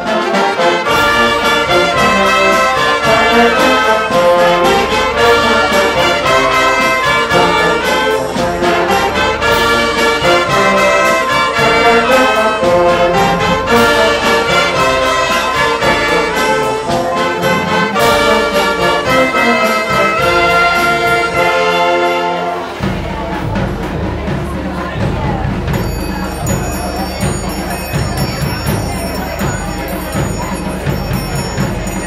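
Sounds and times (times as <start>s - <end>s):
wind band playing: 0.0s - 32.0s.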